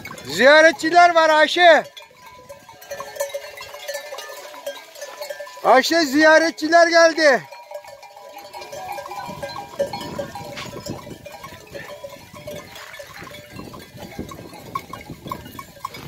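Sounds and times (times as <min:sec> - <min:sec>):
hooves crunching on gravel: 0:00.0 - 0:16.0
metal bells clinking: 0:00.0 - 0:16.0.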